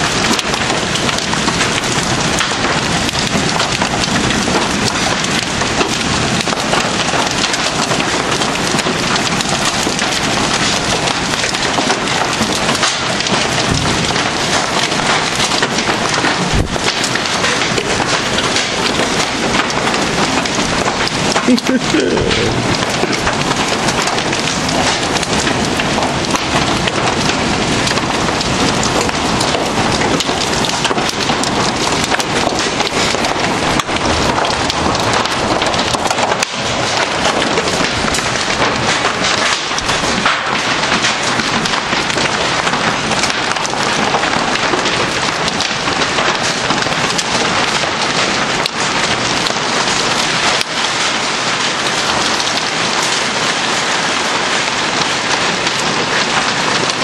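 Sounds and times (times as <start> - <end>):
hail pelting: 0.0 - 57.0
heavy rain: 0.0 - 57.0.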